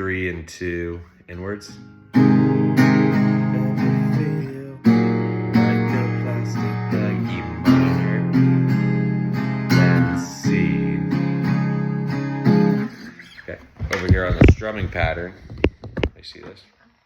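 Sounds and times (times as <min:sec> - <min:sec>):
acoustic guitar strumming chords: 0:00.0 - 0:15.2.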